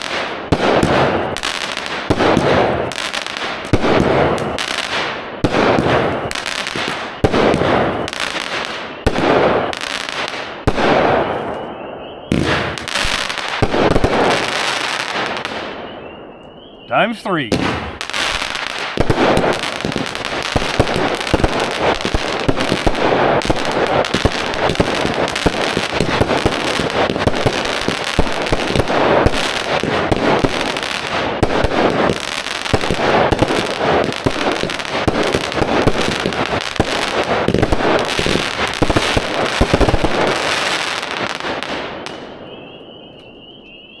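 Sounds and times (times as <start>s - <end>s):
fireworks launching and crackling: 0.0s - 16.2s, 16.9s - 43.2s.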